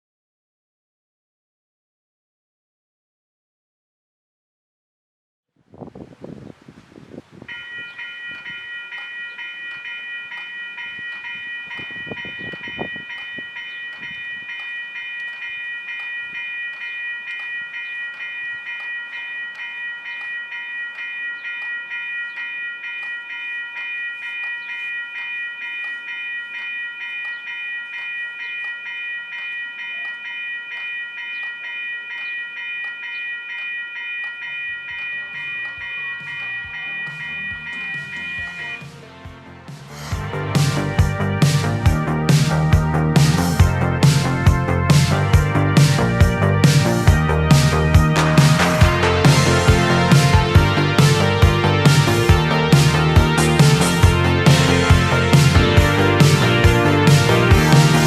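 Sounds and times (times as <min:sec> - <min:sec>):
railroad crossing bell ringing: 0:07.5 - 0:39.4, 0:40.0 - 0:58.0.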